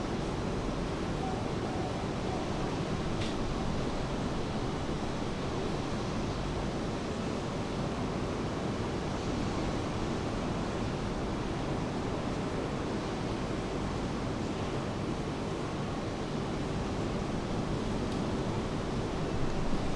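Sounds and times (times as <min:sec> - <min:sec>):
rain: 0:00.1 - 0:19.9.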